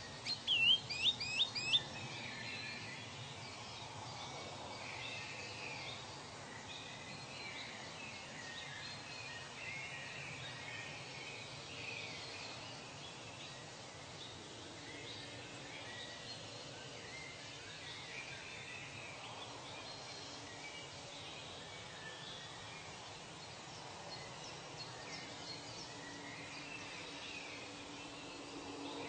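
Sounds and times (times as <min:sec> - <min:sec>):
bird calls and chirps: 0:00.0 - 0:29.0
steady background hiss: 0:00.0 - 0:29.0.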